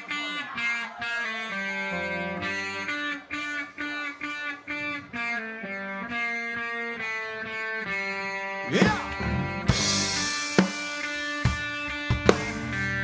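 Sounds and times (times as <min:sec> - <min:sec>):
electric guitar melody: 0:00.5 - 0:13.0.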